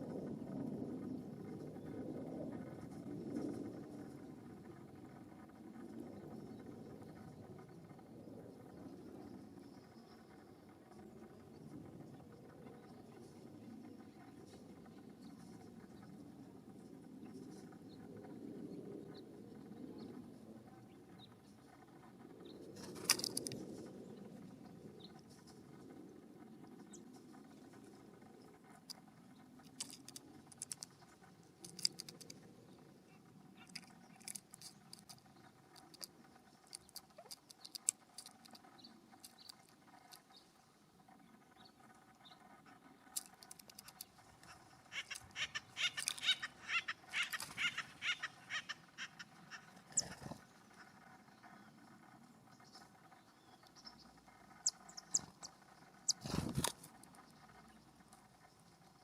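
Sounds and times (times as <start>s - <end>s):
animals pecking and scratching seed: 0.0s - 59.0s.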